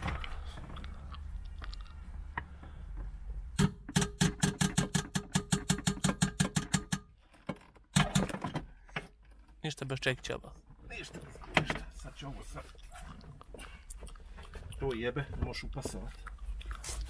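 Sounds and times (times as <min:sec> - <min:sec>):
rustling and handling of parts: 0:00.0 - 0:17.0.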